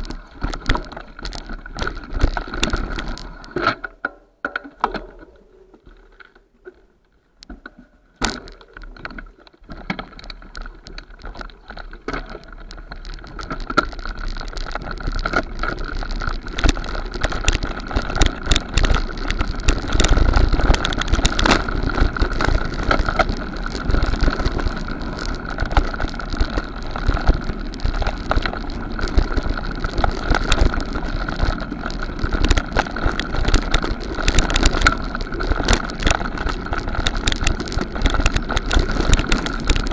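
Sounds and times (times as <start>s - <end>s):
bicycle rattling over rough trail: 0.0s - 39.9s.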